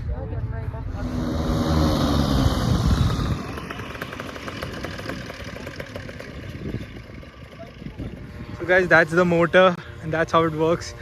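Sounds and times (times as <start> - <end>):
paramotor engine and propeller: 0.5 - 11.0.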